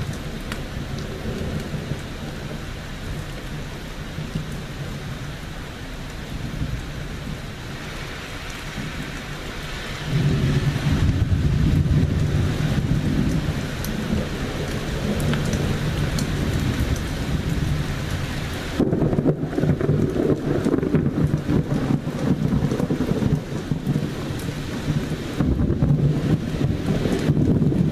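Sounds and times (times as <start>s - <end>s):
thunder rumbling: 0.0s - 3.2s, 8.7s - 27.9s
rain hissing: 0.0s - 27.9s.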